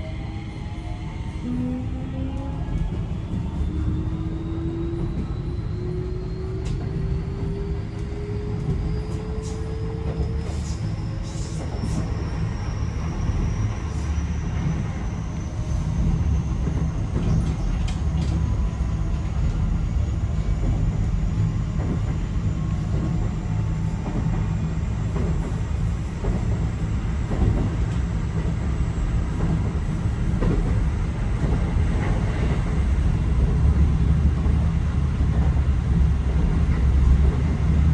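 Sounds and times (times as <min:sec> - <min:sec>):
wheels rumbling on rail: 0:00.0 - 0:37.9
rail joint clicks: 0:05.0 - 0:37.9.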